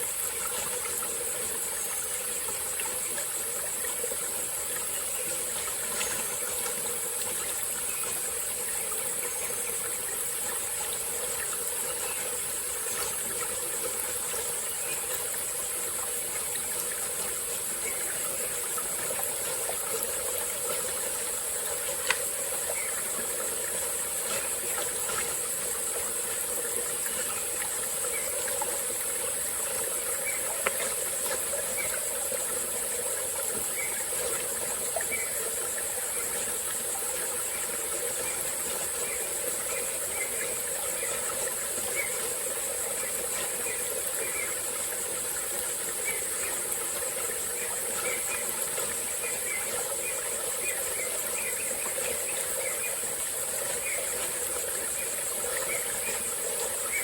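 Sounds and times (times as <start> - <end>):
insects droning: 0.0 - 57.0
small stream running: 0.0 - 57.0.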